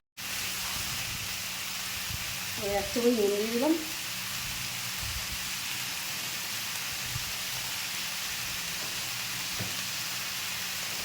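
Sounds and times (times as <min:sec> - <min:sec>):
chicken sizzling in hot oil: 0:00.2 - 0:11.0.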